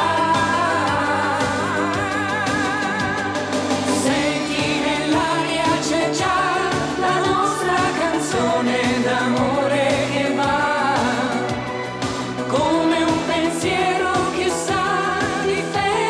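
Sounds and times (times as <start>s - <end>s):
man singing: 0.0s - 3.2s, 3.9s - 11.6s, 12.4s - 16.0s
woman singing: 0.0s - 11.6s, 12.5s - 16.0s
band with steady beat: 0.0s - 16.0s.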